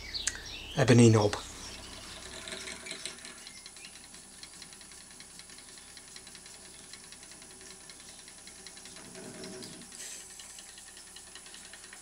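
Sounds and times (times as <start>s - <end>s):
wood lathe running: 1.4s - 12.0s.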